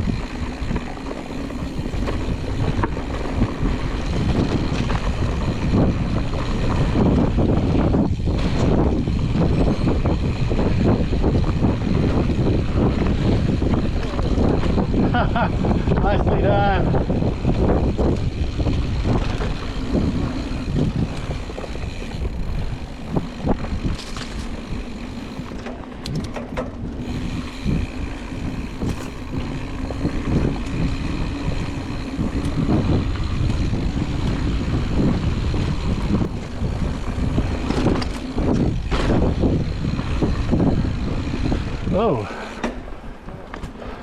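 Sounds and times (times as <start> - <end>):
bike knocks and rattles: 0.0 - 44.0
bike tyres rumbling on dirt: 0.0 - 44.0
wind buffeting microphone: 0.0 - 44.0.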